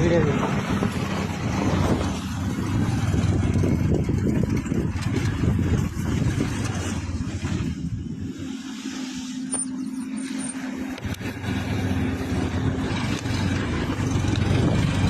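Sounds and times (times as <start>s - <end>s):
motor vehicle engine running: 0.0s - 15.0s.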